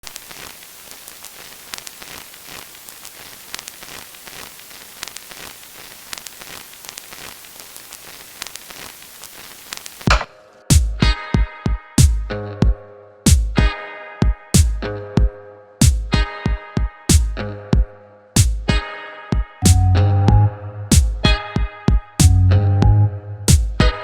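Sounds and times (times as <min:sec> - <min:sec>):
vinyl record crackle and hiss: 0:00.0 - 0:11.2, 0:12.0 - 0:24.0.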